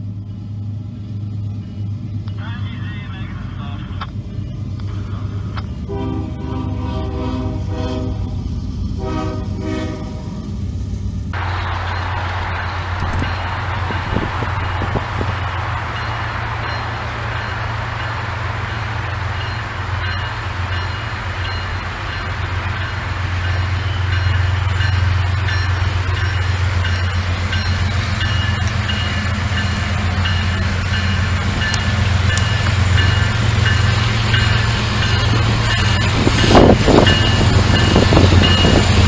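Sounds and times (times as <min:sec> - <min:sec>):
diesel locomotive rumbling: 0:00.0 - 0:39.0.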